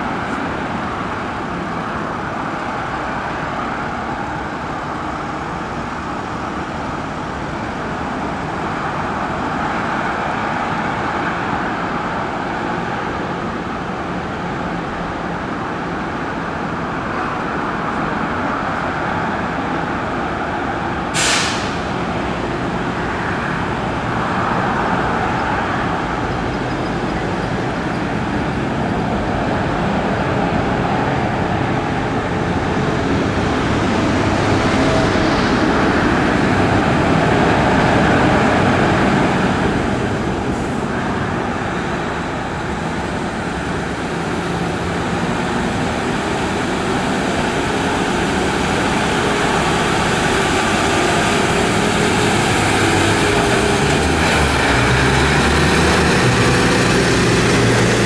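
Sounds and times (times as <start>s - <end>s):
heavy rolling and road noise: 0.0s - 58.0s
truck diesel engines under load: 0.0s - 58.0s.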